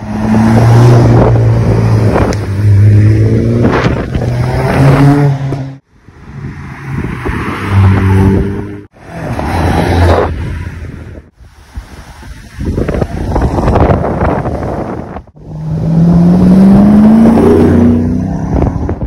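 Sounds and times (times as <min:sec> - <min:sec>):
car engines accelerating: 0:00.0 - 0:11.1, 0:13.6 - 0:19.0.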